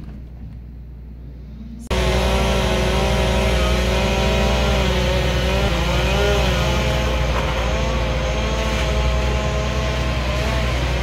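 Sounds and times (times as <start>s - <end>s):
truck engine rumble with whine: 0.0s - 11.0s.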